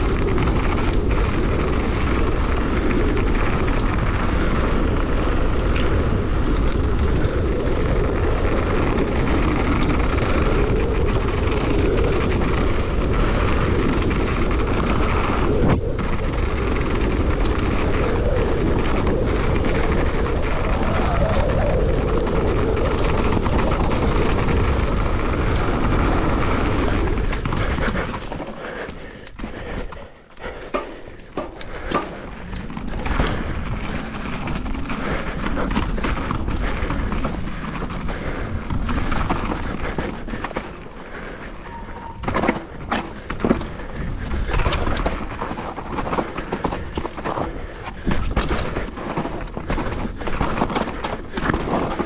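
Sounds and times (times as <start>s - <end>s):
bike clattering: 0.0s - 52.0s
tyres rolling over dirt: 0.0s - 52.0s
wind rushing over microphone: 0.0s - 52.0s.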